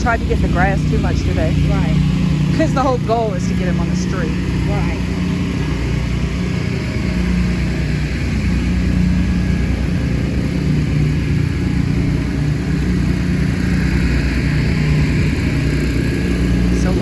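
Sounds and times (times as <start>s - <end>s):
loud engine droning: 0.0s - 17.0s.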